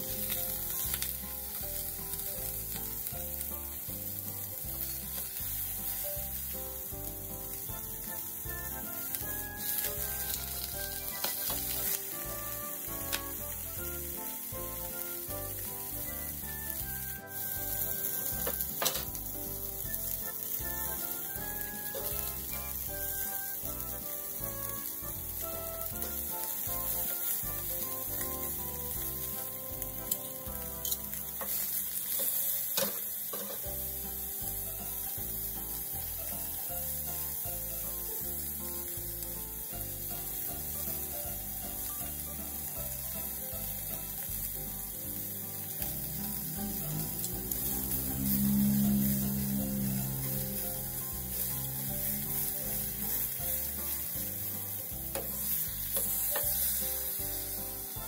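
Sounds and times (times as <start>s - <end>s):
soft background music with beat: 0.0s - 58.0s
steak sizzling in a frying pan: 0.0s - 58.0s.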